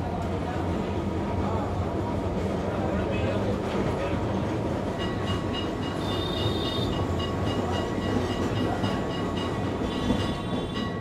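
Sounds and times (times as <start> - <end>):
tram wheels and motor rumbling: 0.0 - 11.0.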